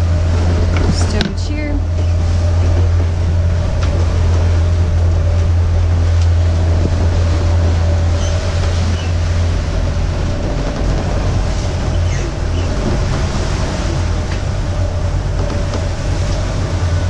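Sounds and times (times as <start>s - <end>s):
low drone in boat cabin: 0.0s - 17.0s
water and wind rushing: 0.0s - 17.0s.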